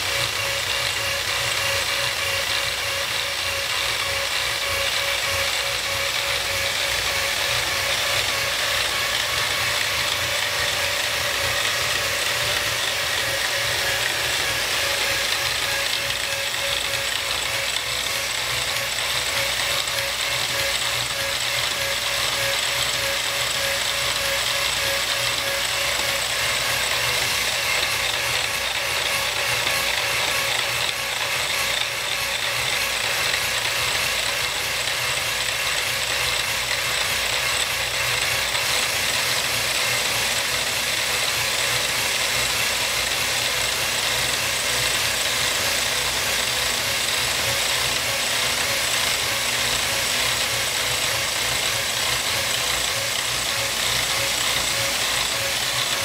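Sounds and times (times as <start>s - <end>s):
power hacksaw cutting metal rod: 0.0s - 56.0s.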